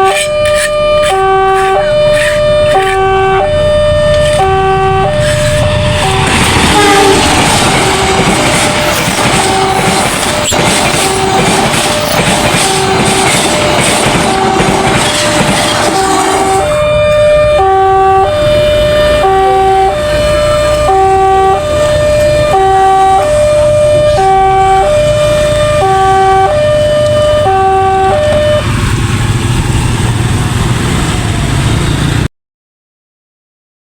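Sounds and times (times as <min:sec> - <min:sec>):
level-crossing warning siren: 0:00.0 - 0:32.3
passing train: 0:00.0 - 0:32.3.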